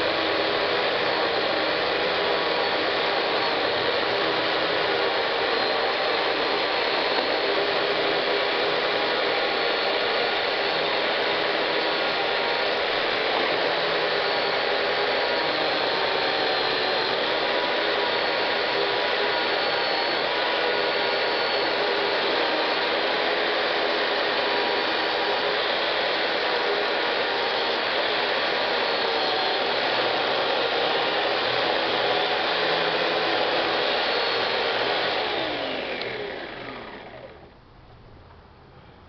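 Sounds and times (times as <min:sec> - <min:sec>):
chainsaw cutting log: 0:00.0 - 0:37.5.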